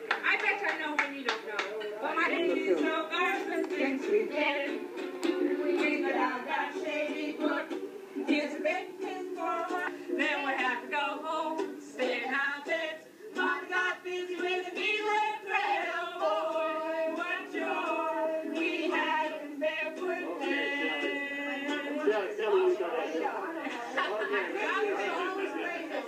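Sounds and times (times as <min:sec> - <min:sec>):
group of people singing: 0:02.3 - 0:26.0.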